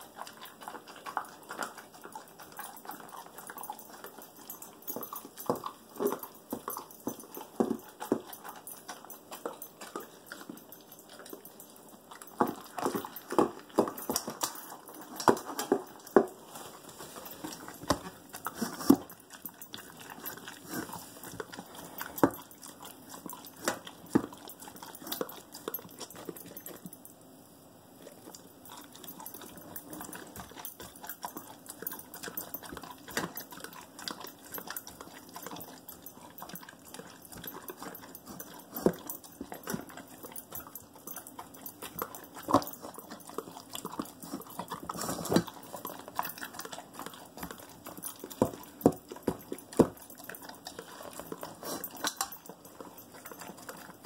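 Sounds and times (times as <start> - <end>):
dog crunching and chewing food: 0.0 - 27.2, 27.9 - 54.0.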